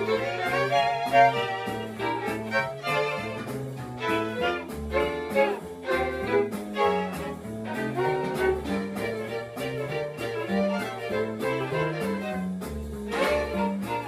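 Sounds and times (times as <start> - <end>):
string quartet playing swing jazz: 0.0 - 14.0.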